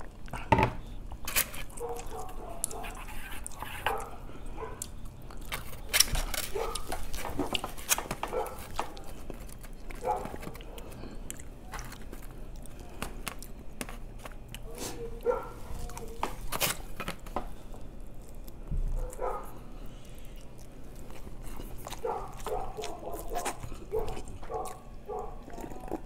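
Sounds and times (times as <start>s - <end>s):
chewing and lip smacking: 0.0s - 26.0s.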